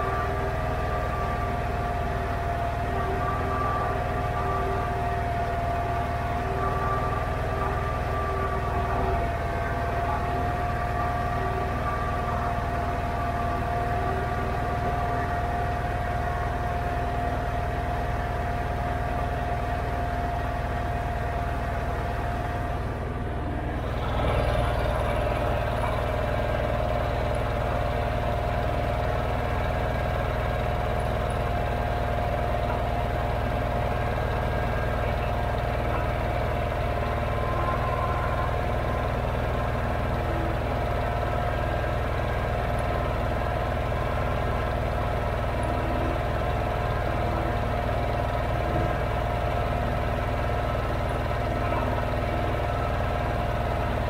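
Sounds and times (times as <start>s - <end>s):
garden tractor engine whining: 0.0s - 54.0s.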